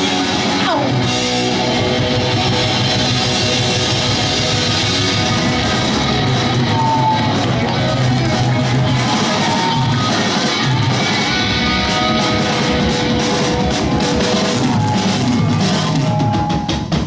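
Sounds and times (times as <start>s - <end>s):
live punk band playing: 0.0s - 17.0s.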